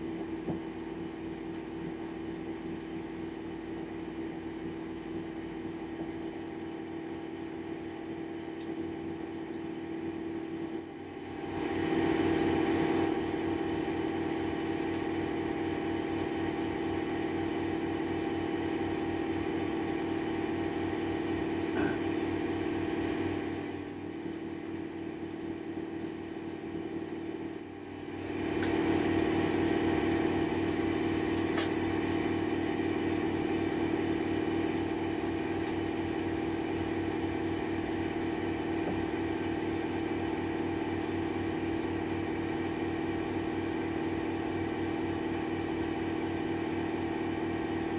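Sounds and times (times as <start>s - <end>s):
mechanical hum: 0.0s - 47.9s.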